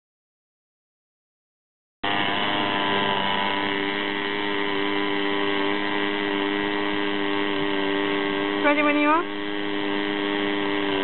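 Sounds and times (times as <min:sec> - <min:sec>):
model diesel engine running: 0:02.0 - 0:11.0.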